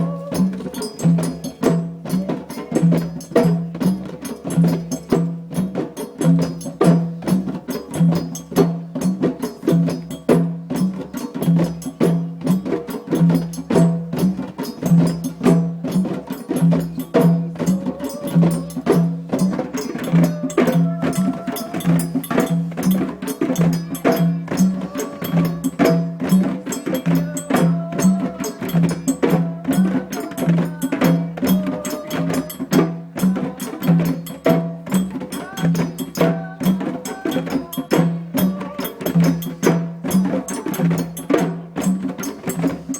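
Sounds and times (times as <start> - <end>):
djembe drumming: 0.0 - 42.9.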